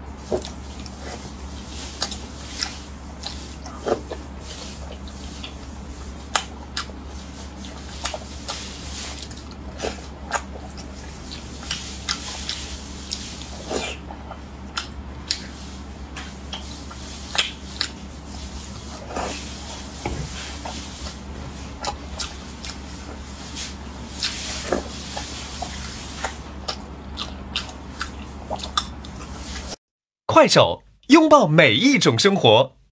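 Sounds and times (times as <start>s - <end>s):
steady low hum: 0.0s - 29.8s
wet chewing with lip-smacks: 0.3s - 29.8s.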